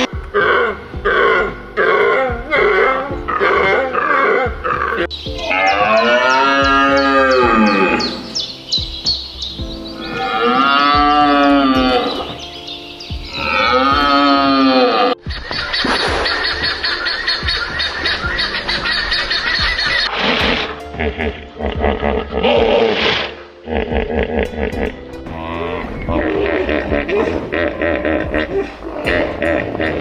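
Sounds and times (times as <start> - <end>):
animal calls: 0.0 - 30.0.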